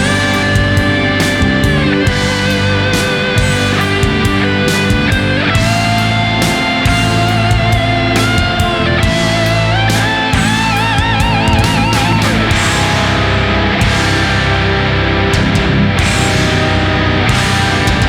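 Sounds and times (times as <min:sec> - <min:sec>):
electric guitar lead with vibrato: 0:00.0 - 0:18.0
heavy rock music: 0:00.0 - 0:18.0.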